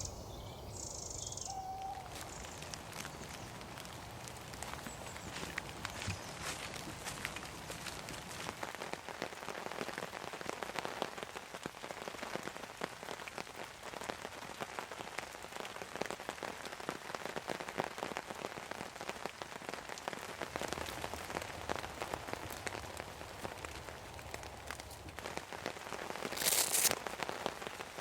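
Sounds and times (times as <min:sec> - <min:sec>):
heavy rain hiss: 0:00.0 - 0:28.0
raindrops ticking close by: 0:01.3 - 0:28.0.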